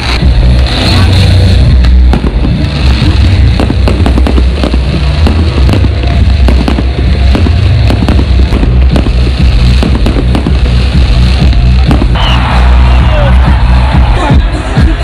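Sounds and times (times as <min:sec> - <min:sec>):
fireworks cracking and popping: 0:00.0 - 0:15.0
music with heavy bass: 0:00.0 - 0:15.0.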